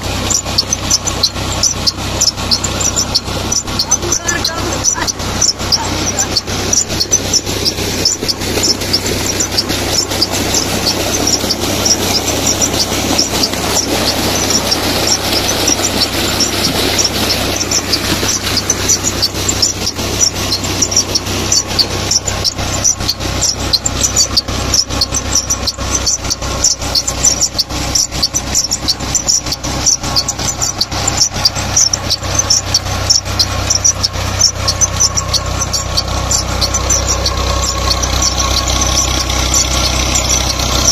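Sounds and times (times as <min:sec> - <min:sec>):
ticking clatter of pump drive: 0:00.0 - 0:40.9
tractor diesel engine running: 0:00.0 - 0:40.9
water gushing from pipe: 0:00.0 - 0:40.9.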